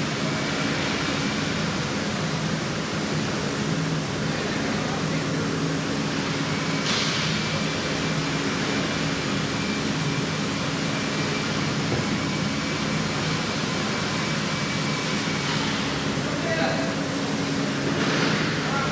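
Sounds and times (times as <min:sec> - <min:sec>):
milling machine running: 0:00.0 - 0:18.9.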